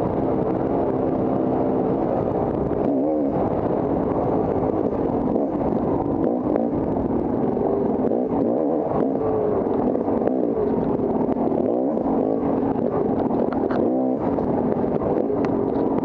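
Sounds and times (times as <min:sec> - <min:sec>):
off-road motorcycle engine revving: 0:00.0 - 0:16.0.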